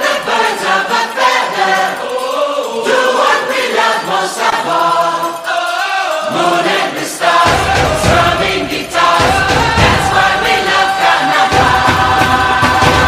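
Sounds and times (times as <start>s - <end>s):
music with singing voices: 0.0s - 13.0s.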